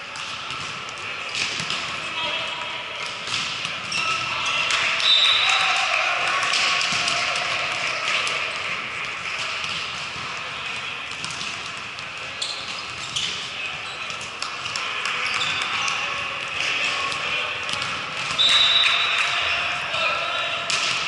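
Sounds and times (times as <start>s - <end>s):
murmur of voices: 0.0s - 21.0s.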